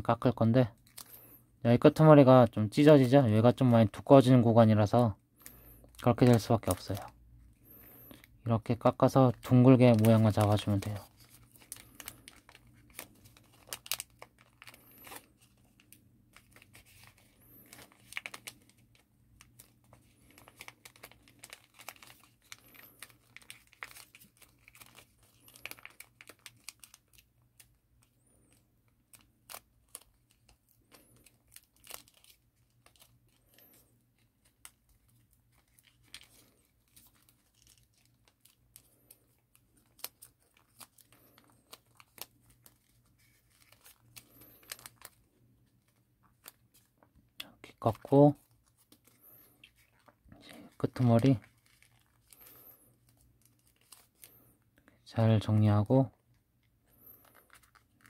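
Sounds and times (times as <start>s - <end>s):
paper crinkling: 4.7s - 58.0s.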